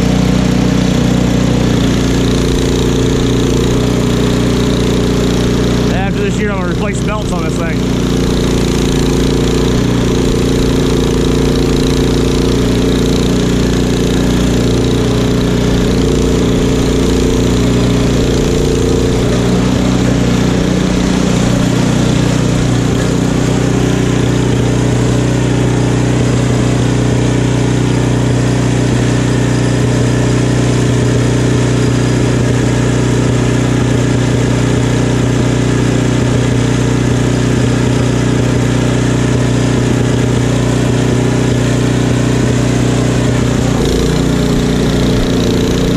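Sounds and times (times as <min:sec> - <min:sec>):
snowblower engine running: 0:00.0 - 0:45.9.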